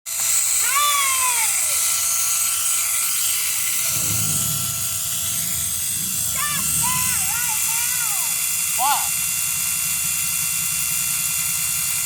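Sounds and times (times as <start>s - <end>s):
air compressor motor whine and hiss: 2.0s - 11.8s.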